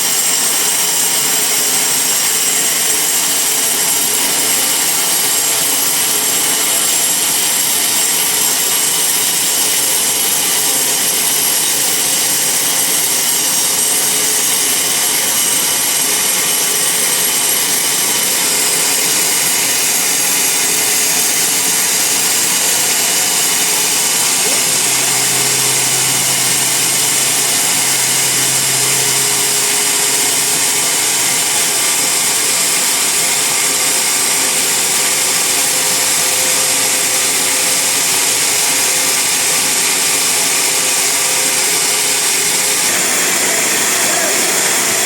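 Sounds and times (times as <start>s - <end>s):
band saw cutting log: 0.0s - 45.0s.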